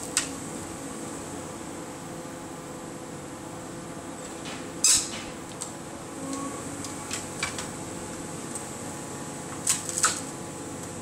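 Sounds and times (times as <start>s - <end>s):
excavator humming: 0.0s - 11.0s.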